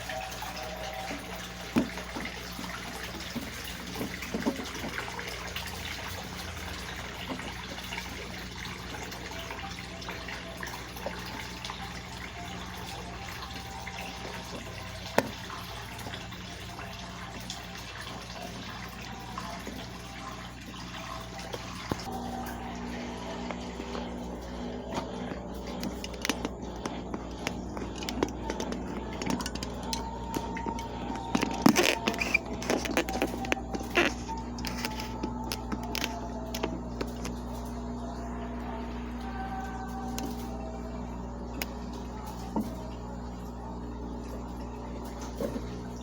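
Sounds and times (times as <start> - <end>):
low steady hum: 0.0 - 46.0
water running into washing machine: 0.0 - 46.0.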